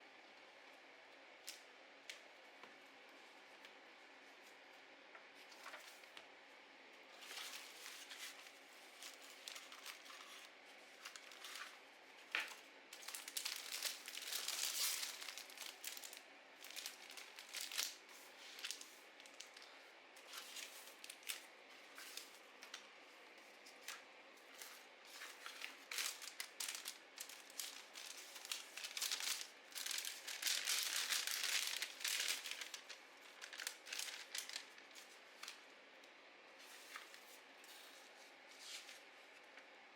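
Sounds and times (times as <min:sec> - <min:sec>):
paper crinkling and rustling: 0:05.2 - 0:06.3, 0:07.1 - 0:35.7, 0:36.6 - 0:39.7.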